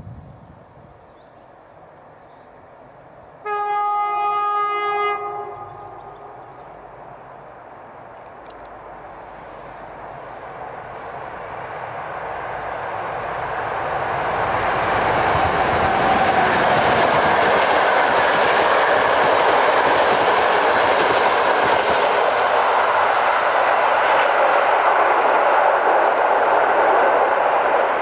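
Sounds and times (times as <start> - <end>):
train wheels rumbling on rails: 5.1 - 28.0.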